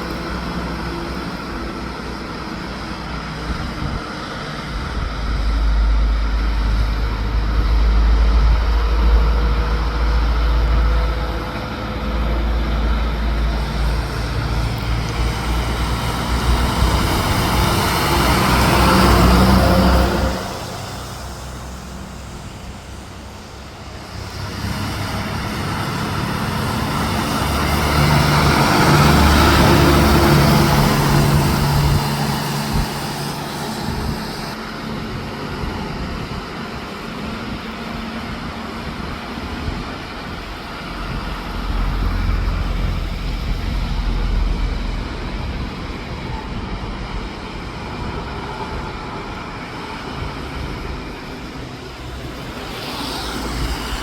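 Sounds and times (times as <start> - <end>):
heavy truck passing: 0.0 - 54.0.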